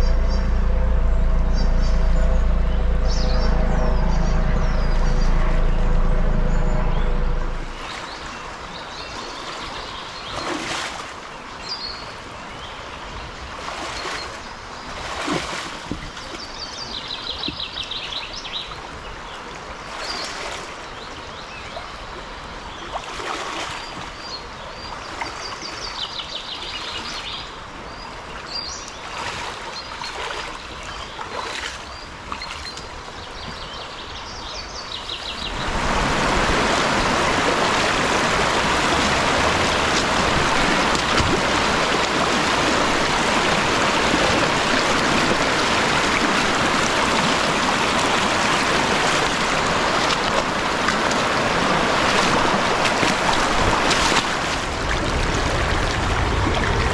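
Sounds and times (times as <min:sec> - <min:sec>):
water rushing over rapids: 0:00.0 - 0:33.6, 0:34.6 - 0:56.9
river flowing: 0:00.0 - 0:56.9.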